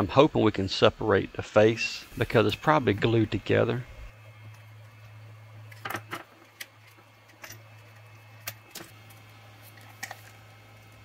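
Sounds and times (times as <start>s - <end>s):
hot-air gun humming: 0.0s - 11.0s.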